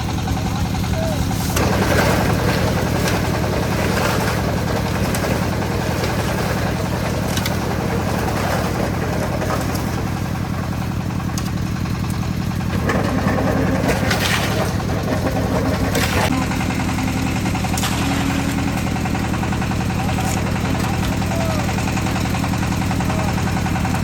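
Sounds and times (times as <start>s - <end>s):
concrete mixer engine running: 0.0s - 24.0s.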